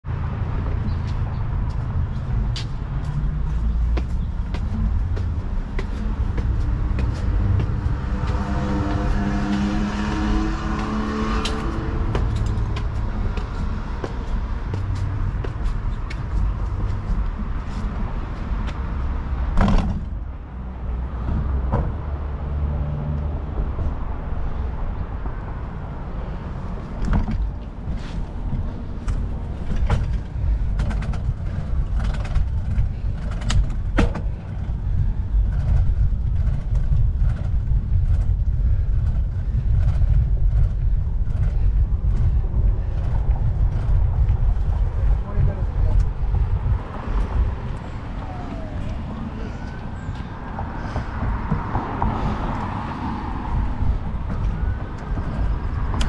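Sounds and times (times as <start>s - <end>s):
wind and bicycle riding noise: 0.1s - 56.0s.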